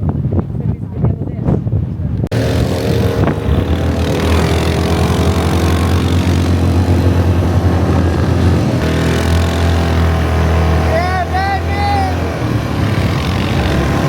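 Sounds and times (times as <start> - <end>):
vehicle engine humming: 2.2 - 14.0.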